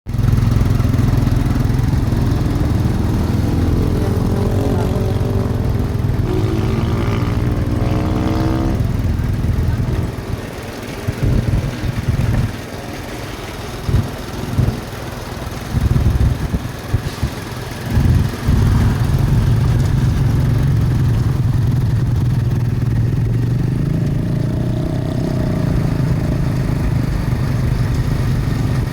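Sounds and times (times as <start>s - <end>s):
bus engine rumbling: 0.1s - 28.9s.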